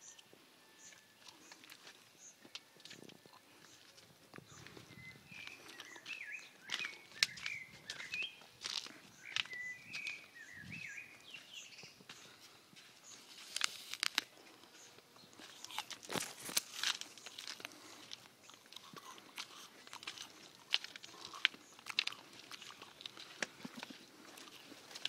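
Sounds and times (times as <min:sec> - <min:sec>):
footsteps crunching through dry brush: 0:00.6 - 0:25.0
small bird chirping: 0:02.2 - 0:12.4, 0:13.0 - 0:24.7.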